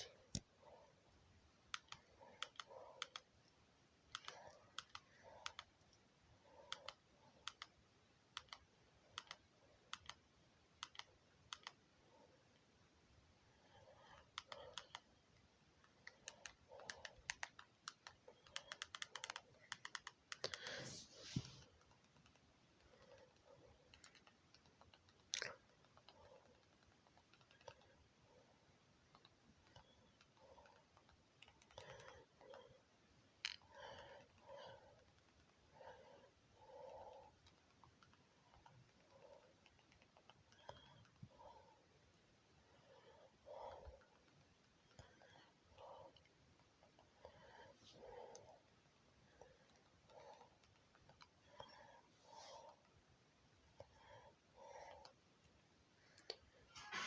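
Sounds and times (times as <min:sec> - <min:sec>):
faint regular clicking: 0:01.4 - 0:12.8, 0:13.6 - 0:56.8.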